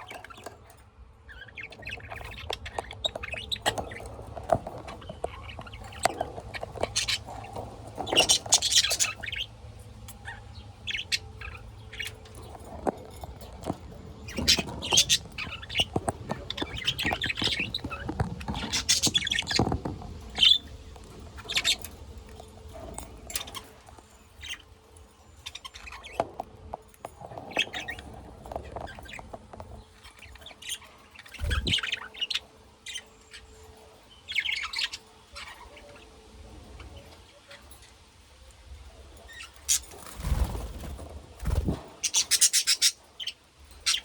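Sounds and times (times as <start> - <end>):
pet birds chirping: 0.0 - 44.0.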